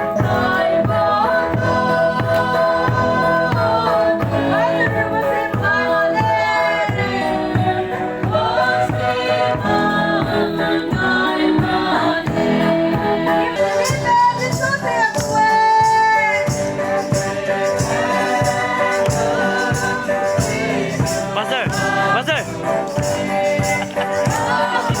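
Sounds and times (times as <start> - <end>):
voices singing over a beat: 0.0 - 25.0.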